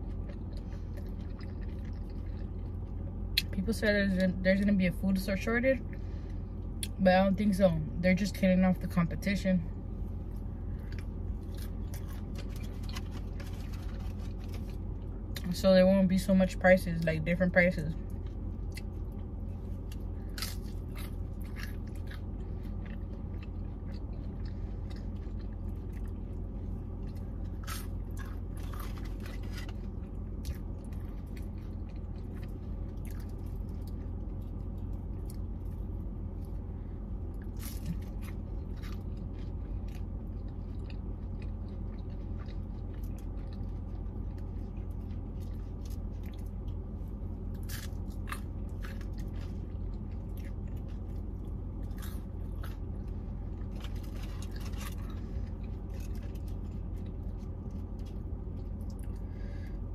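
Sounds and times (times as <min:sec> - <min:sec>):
chewing and crunching: 0:00.0 - 0:07.5, 0:08.2 - 0:59.9
steady low hum: 0:00.0 - 0:59.9.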